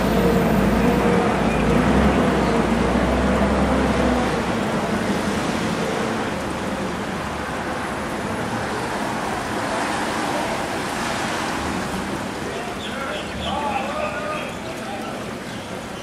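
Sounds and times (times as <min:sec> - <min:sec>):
rain falling: 0:00.0 - 0:16.0
traffic hiss on wet road: 0:00.0 - 0:16.0.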